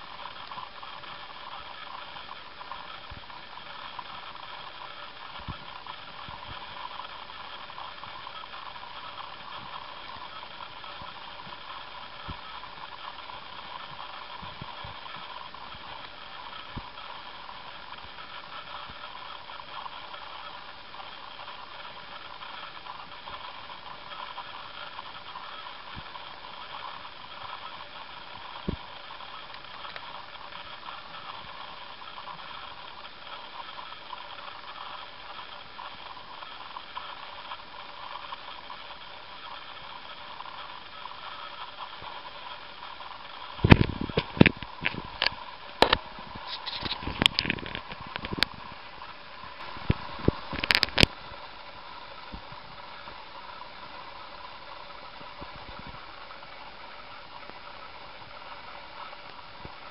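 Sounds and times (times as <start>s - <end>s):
hamster gnawing peanut shell: 0.2s - 48.8s, 49.5s - 51.3s.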